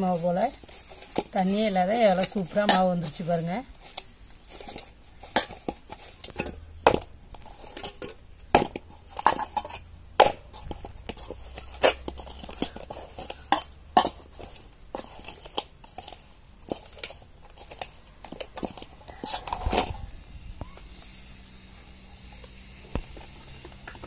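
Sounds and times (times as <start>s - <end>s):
dough kneaded in metal bowl: 0.0s - 24.0s.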